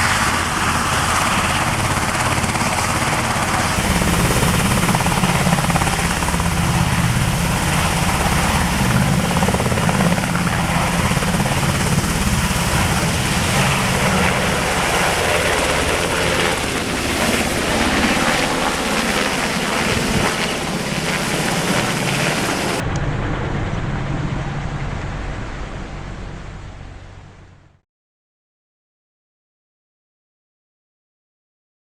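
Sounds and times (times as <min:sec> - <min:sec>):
helicopter rotor chop: 0:00.0 - 0:27.0
helicopter turbine noise: 0:00.0 - 0:27.6.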